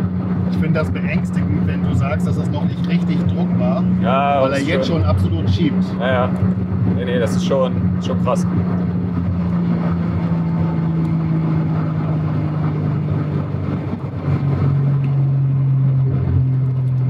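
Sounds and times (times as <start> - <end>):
car engine running from cabin: 0.0 - 17.0.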